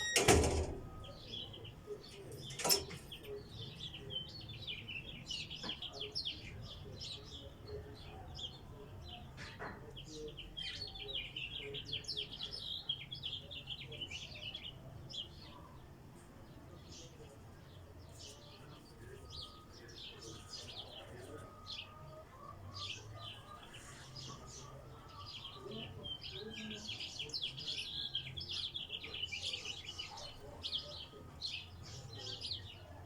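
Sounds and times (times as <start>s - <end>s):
small birds chirping: 0.8s - 33.0s.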